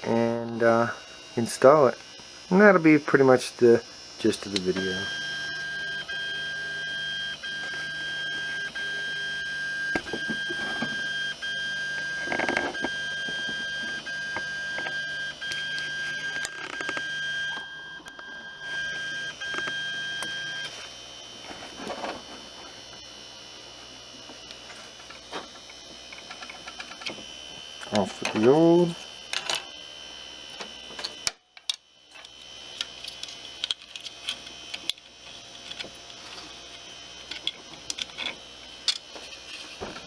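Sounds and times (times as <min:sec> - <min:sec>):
printer high whine: 0:00.0 - 0:31.3, 0:34.2 - 0:40.0.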